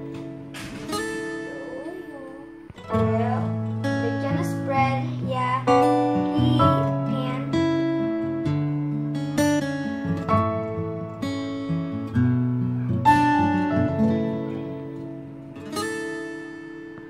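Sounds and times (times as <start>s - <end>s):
strummed acoustic guitar music: 0.0s - 17.0s.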